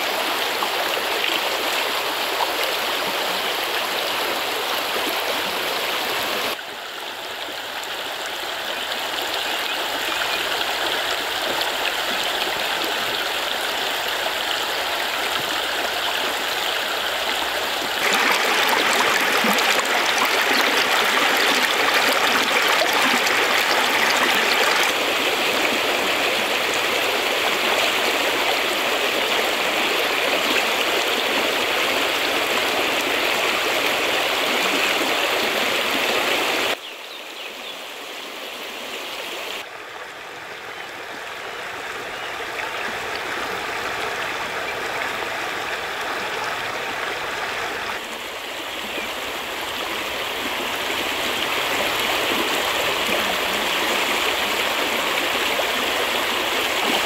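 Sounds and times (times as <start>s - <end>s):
stream rushing over stones: 0.0s - 36.8s, 41.7s - 57.0s.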